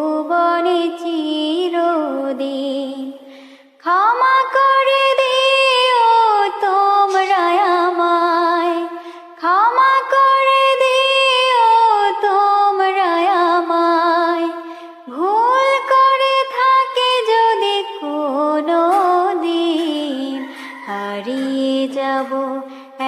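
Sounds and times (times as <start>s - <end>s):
wordless sung vocal: 0.0s - 23.0s.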